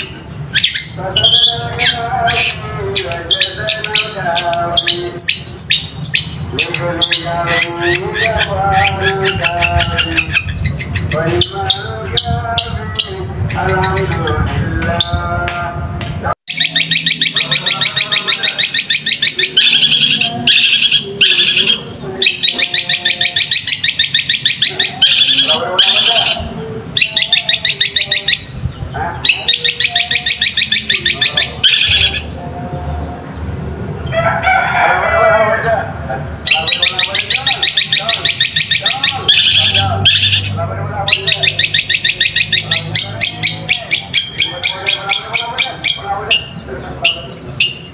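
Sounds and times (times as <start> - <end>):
bird harsh rasping: 0.0 - 15.2, 16.5 - 28.6, 36.4 - 47.9
bird chattering song: 0.0 - 15.6, 16.5 - 32.4, 36.3 - 47.9.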